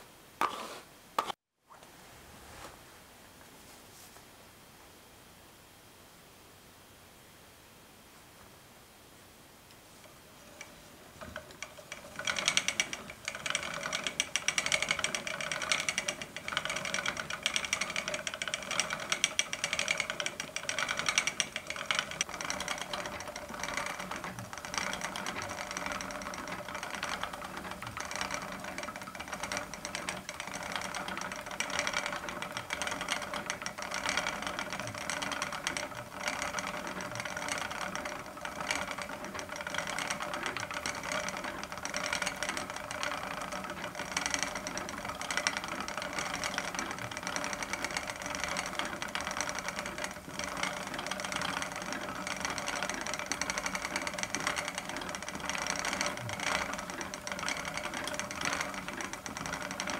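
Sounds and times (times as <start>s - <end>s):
spinning wheel whirring: 10.0s - 59.9s
wooden wheel rattling: 10.0s - 59.9s.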